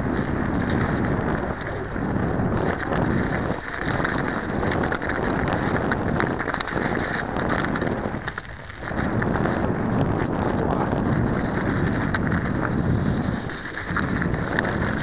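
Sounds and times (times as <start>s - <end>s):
bicycle tyres crunching over snow: 0.0s - 15.0s
wind buffeting microphone: 0.0s - 15.0s.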